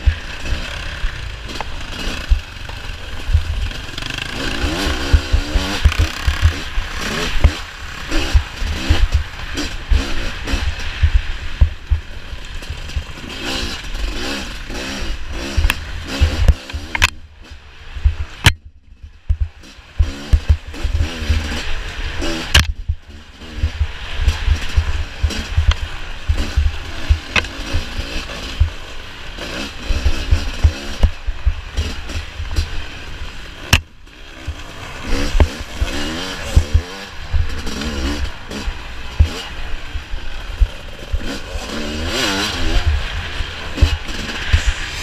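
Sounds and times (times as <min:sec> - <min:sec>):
dirt bike engine revving: 0:00.0 - 0:18.6, 0:19.3 - 0:45.0.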